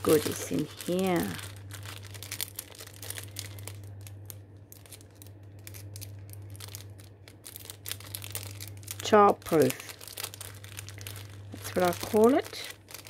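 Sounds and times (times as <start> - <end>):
low electrical hum: 0.0 - 13.0
packaging crinkling: 0.0 - 13.0.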